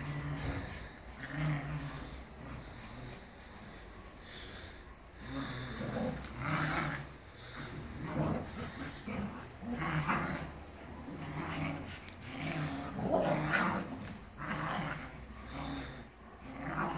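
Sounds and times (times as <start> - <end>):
dogs growling in play: 0.0 - 16.9.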